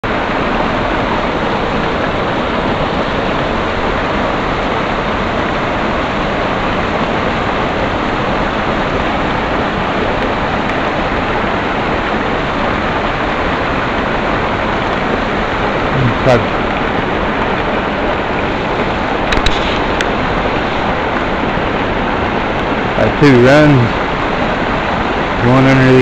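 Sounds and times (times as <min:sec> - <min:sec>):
creek water running over rocks: 0:00.0 - 0:26.0.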